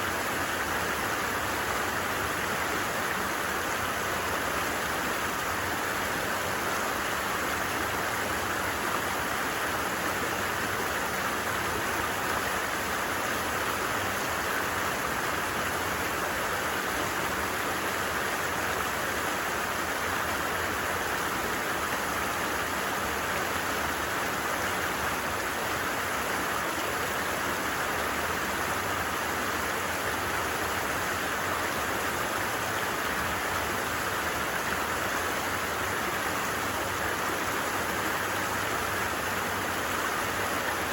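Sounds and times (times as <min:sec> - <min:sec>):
light rain: 0:00.0 - 0:40.9
stream flowing: 0:00.0 - 0:40.9.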